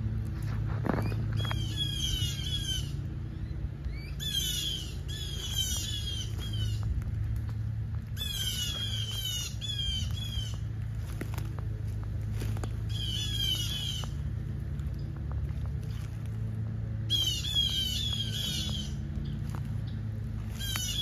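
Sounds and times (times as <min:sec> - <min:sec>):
birds giving harsh alarm calls: 0:00.8 - 0:07.4, 0:08.0 - 0:11.5, 0:12.3 - 0:15.0, 0:15.8 - 0:21.0.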